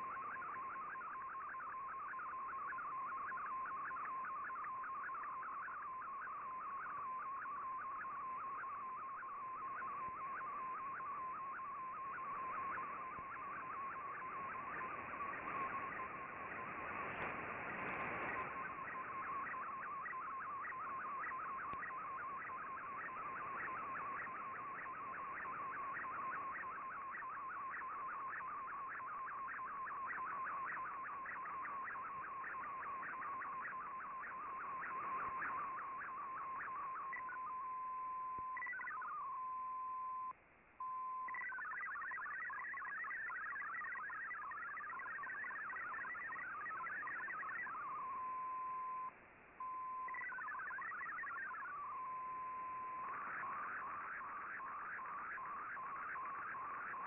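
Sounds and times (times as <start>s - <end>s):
data tone blipping in pitch: 0.0s - 57.0s.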